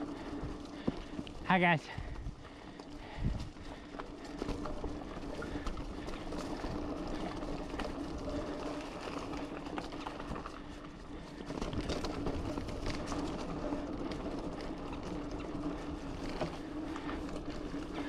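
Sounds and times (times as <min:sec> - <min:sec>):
bike clicks and rattles: 0:00.0 - 0:18.0
bike tyres on dirt trail: 0:00.0 - 0:18.0.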